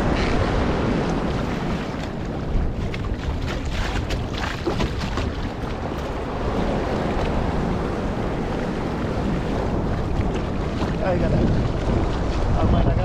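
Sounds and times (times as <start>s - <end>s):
waves lapping against hull: 0.0s - 13.0s
wind buffeting microphone: 0.0s - 13.0s.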